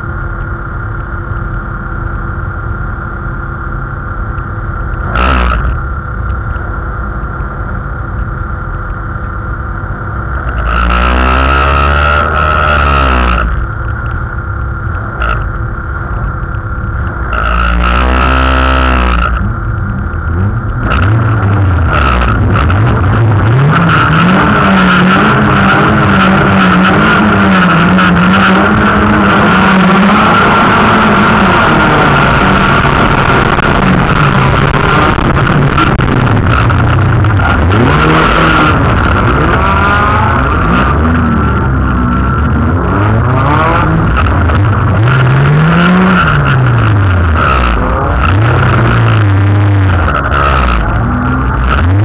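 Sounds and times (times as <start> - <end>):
surrounding car engines: 0.0 - 52.0
race car engine revving: 4.4 - 6.5, 9.8 - 52.0.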